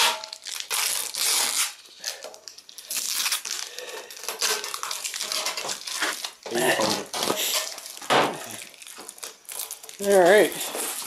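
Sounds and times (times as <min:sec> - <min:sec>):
tape ripping off plastic: 0:00.0 - 0:11.0.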